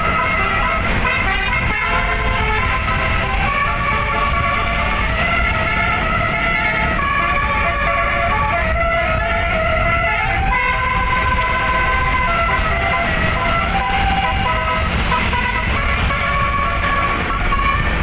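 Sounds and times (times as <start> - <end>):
bus rumble: 0.0 - 18.0
musical air horn tune: 0.0 - 18.0.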